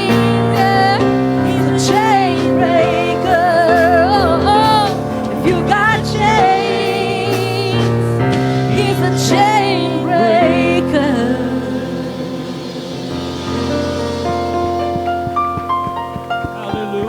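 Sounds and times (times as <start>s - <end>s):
person singing with vibrato: 0.0s - 17.0s
sustained keyboard chords: 0.0s - 17.0s.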